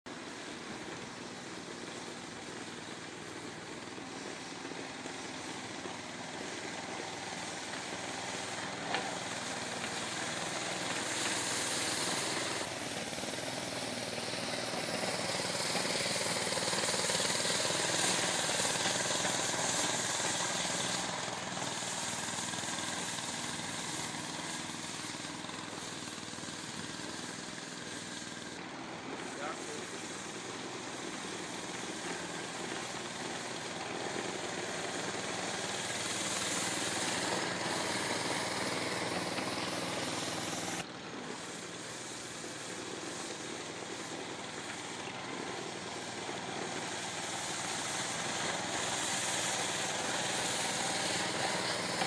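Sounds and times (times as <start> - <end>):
small petrol engine running: 0.1 - 52.0
snow rushing: 0.1 - 52.0.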